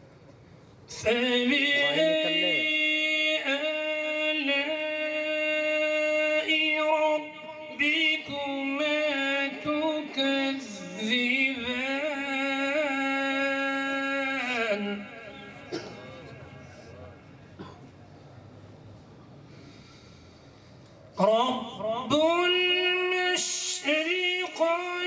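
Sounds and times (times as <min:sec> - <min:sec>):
man reciting melodically: 0:00.8 - 0:17.5, 0:21.1 - 0:25.0.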